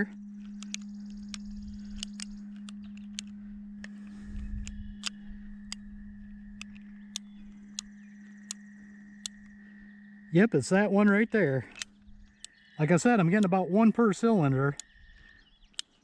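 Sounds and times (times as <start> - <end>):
low hum: 0.0 - 16.0
revolver cylinder clicking: 0.0 - 16.0.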